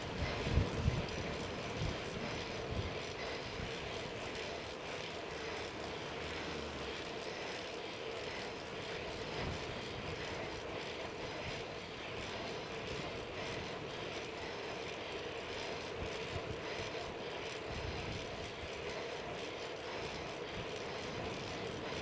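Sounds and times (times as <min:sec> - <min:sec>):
bicycle tyre noise on asphalt: 0:00.0 - 0:22.0
constant hum: 0:00.0 - 0:22.0.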